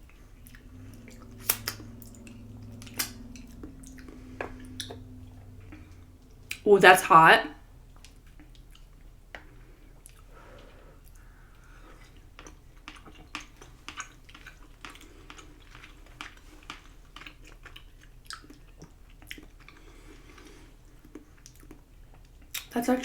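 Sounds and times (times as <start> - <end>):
mouth chewing with clicks and smacks: 0.0 - 6.7, 7.9 - 22.8.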